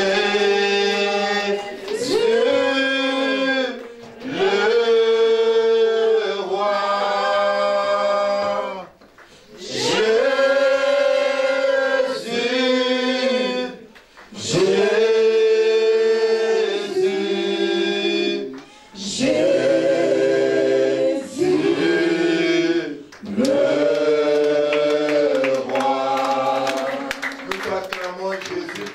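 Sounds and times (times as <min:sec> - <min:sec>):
voices singing along: 0:00.0 - 0:27.4.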